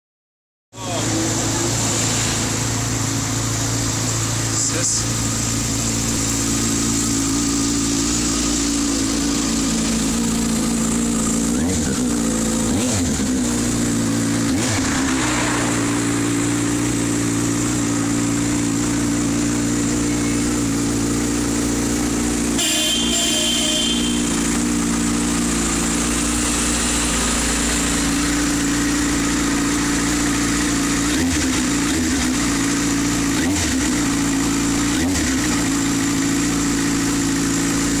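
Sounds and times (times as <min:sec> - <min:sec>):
motorcycle engine idling: 0:00.8 - 0:14.7, 0:15.8 - 0:38.0
motorcycle throttle blips: 0:02.5 - 0:38.0.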